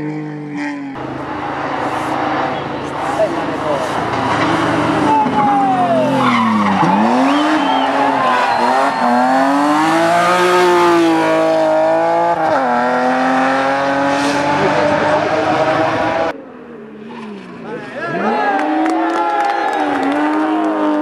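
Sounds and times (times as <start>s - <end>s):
race car engine revving: 0.0s - 16.4s, 17.0s - 21.0s.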